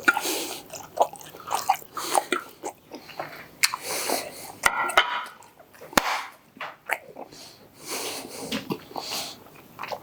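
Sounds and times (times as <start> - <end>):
person chewing: 0.0 - 7.4, 8.4 - 10.0.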